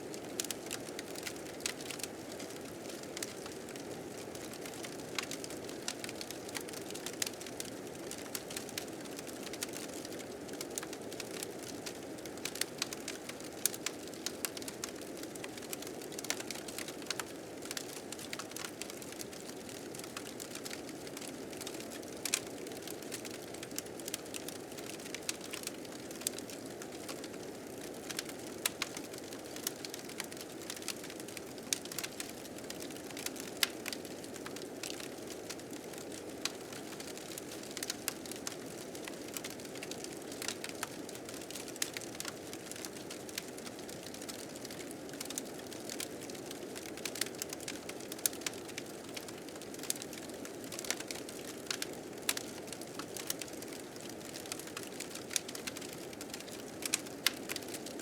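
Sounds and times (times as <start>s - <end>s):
fire crackling and popping: 0.2s - 58.0s.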